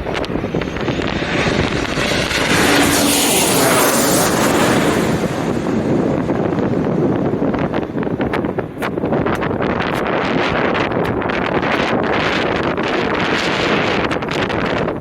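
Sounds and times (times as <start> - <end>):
airliner passing low overhead: 0.0 - 15.0.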